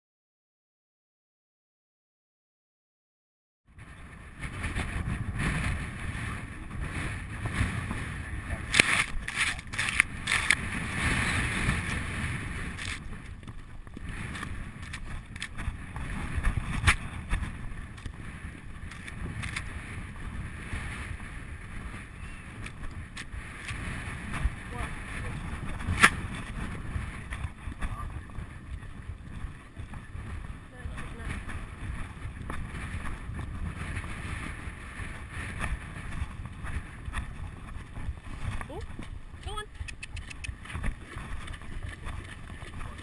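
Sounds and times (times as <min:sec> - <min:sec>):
wind buffeting microphone: 0:03.7 - 0:43.0.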